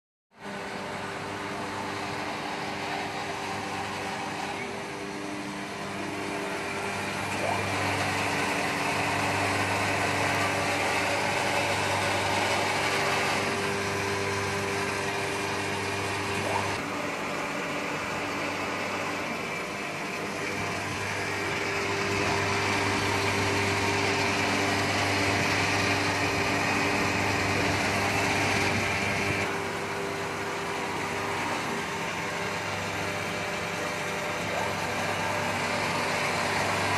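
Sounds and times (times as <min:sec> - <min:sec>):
pump machine humming and whining: 0:00.4 - 0:36.9.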